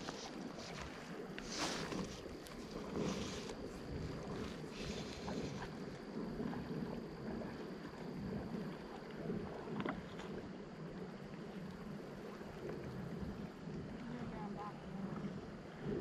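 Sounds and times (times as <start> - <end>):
creek water: 0.0 - 16.0.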